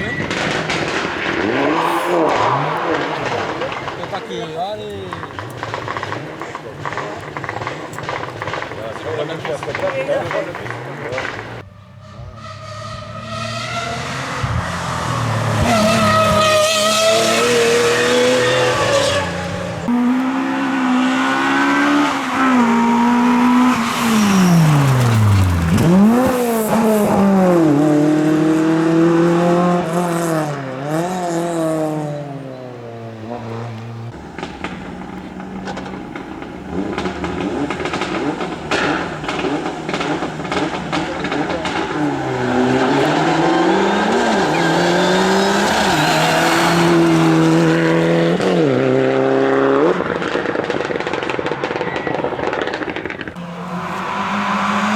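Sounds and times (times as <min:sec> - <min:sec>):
rough engine noise with sharp cracks: 0:00.0 - 0:11.7, 0:21.2 - 0:54.9
rally car engine revving: 0:00.0 - 0:54.9.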